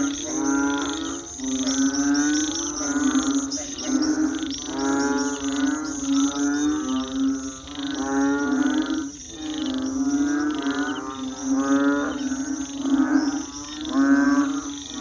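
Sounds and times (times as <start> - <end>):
frogs and toads calling: 0.0 - 15.0
insects chirping: 0.0 - 15.0.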